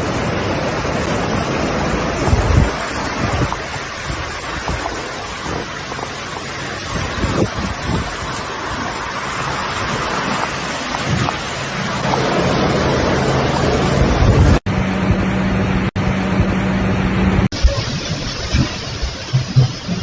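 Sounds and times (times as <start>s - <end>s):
rushing water: 0.0s - 14.6s, 17.5s - 20.0s
low vehicle engine hum: 0.0s - 20.0s
wind buffeting microphone: 0.0s - 20.0s.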